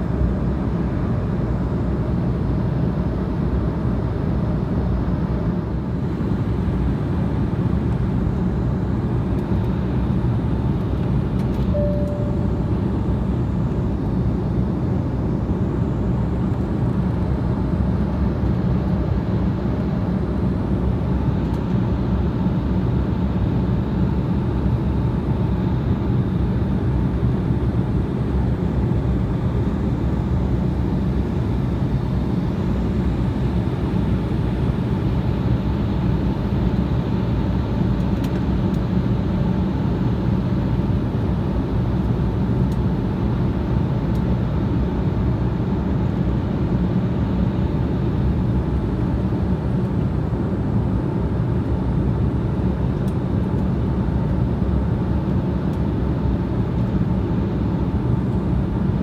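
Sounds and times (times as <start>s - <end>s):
airliner engines droning: 0.0s - 59.0s.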